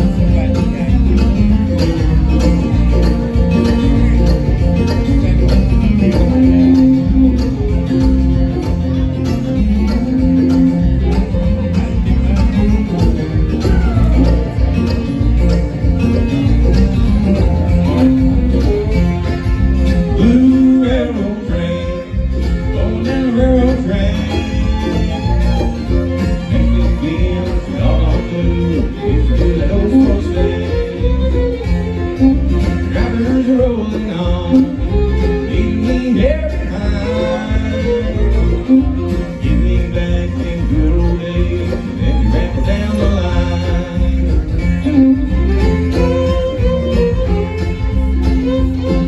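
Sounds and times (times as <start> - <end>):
person singing: 0.0 - 15.5, 17.0 - 49.0
acoustic guitars: 0.0 - 49.0
electric bass: 0.0 - 49.0
fiddle: 0.0 - 49.0
mandolin: 0.0 - 49.0.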